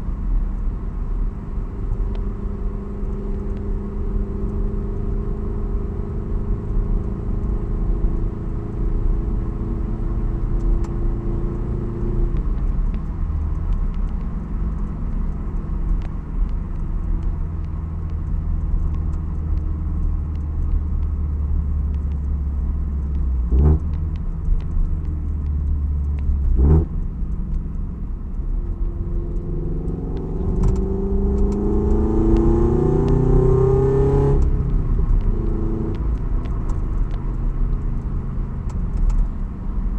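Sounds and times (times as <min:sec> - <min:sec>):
car engine rumbling and revving: 0:00.0 - 0:39.9.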